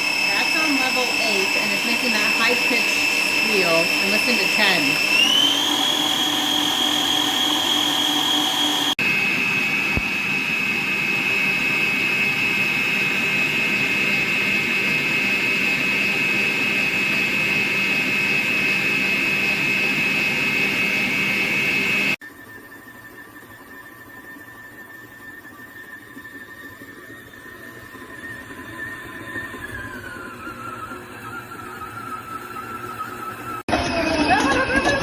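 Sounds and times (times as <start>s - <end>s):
stand mixer motor whining: 0.0s - 35.0s.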